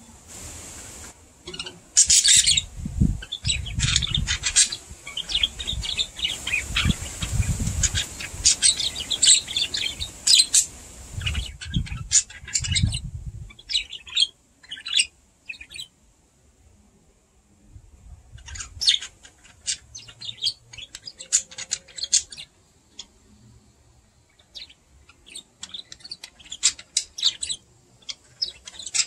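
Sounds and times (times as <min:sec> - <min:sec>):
budgerigars chirping: 0:01.5 - 0:15.9, 0:18.4 - 0:23.1, 0:24.4 - 0:29.0.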